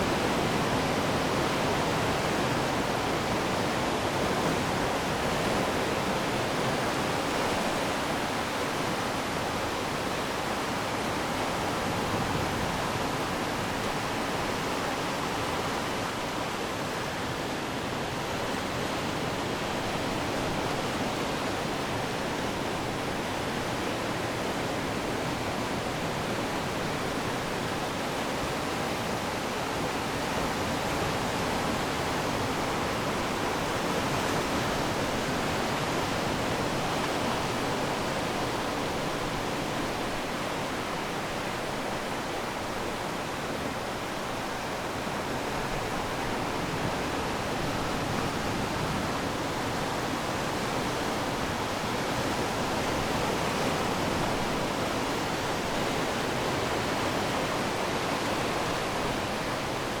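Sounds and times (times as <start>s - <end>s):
ocean waves washing onto shore: 0.0s - 60.0s.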